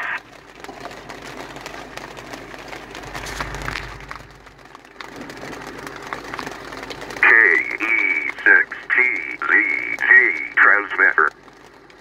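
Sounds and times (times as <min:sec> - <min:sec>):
rain and hail on car roof: 0:00.0 - 0:12.0.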